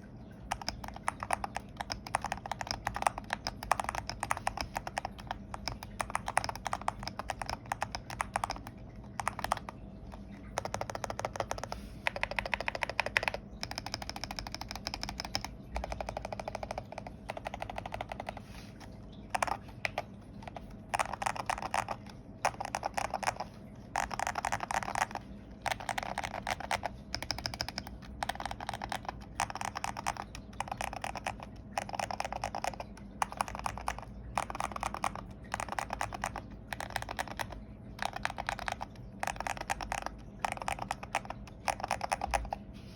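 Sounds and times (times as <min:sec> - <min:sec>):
typing on mechanical keyboard: 0:00.0 - 0:42.7.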